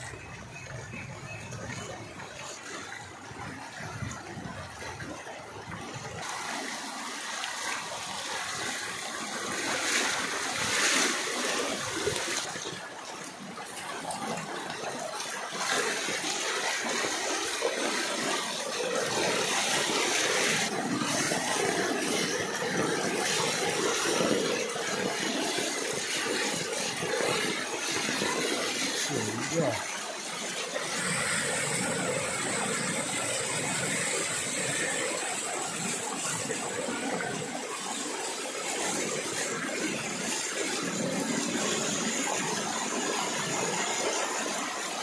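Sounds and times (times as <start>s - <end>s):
floodwater rushing along street: 0.0s - 45.0s.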